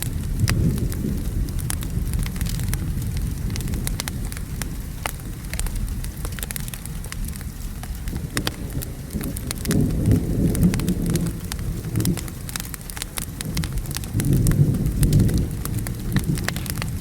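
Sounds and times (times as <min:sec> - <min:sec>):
distant thunder rumbling: 0:00.0 - 0:17.0
steady rain: 0:00.0 - 0:17.0
wood fire crackling: 0:00.0 - 0:17.0.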